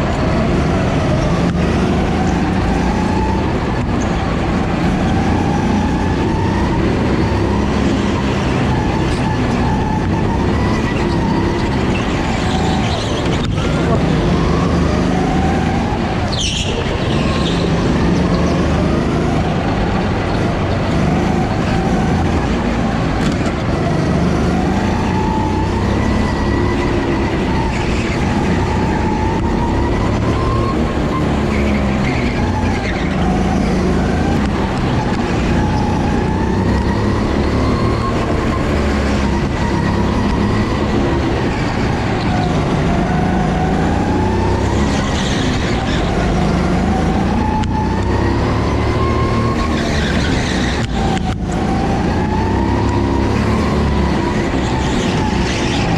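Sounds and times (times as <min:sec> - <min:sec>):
go-kart engine accelerating: 0:00.0 - 0:55.9.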